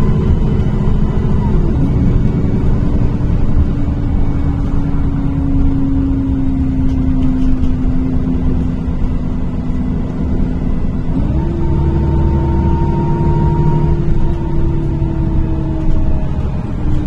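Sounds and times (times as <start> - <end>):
bus engine running: 0.0 - 17.0
low whining tone: 0.0 - 17.0
road rumble: 0.0 - 17.0.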